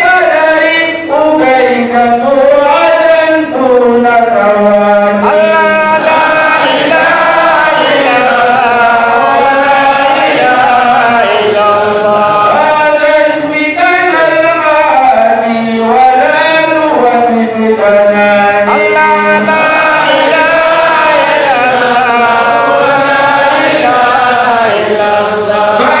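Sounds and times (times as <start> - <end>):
man chanting into microphone: 0.0 - 26.0.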